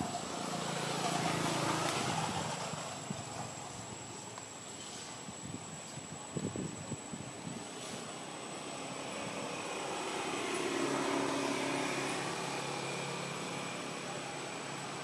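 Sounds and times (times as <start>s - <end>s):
distant engine droning: 0.0s - 5.1s, 7.4s - 15.0s.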